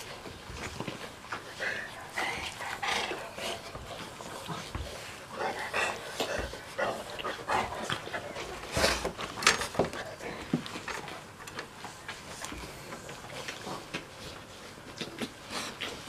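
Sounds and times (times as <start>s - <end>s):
scuffling and mouthing noises: 0.0s - 16.0s.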